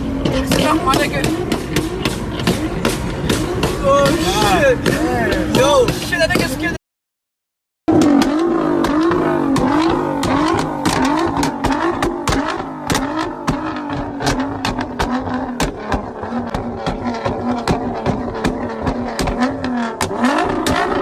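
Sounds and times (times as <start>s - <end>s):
car engine revving: 0.0s - 6.8s, 7.9s - 21.0s
exhaust pops and crackles: 0.0s - 6.8s, 7.9s - 21.0s.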